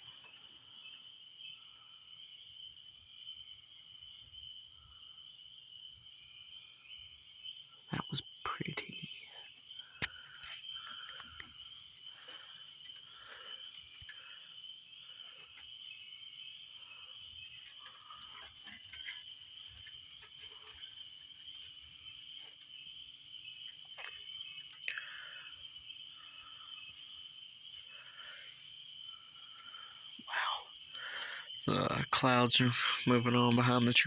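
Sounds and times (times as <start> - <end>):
insects trilling: 0.0 - 34.0
soft insect calls: 0.0 - 34.0.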